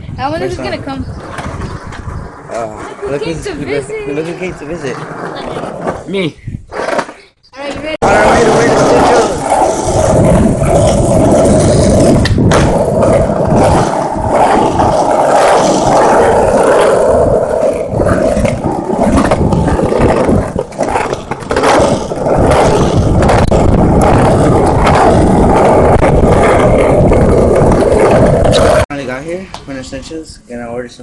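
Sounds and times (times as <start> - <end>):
skateboard wheels rolling on pavement: 0.0 - 29.9.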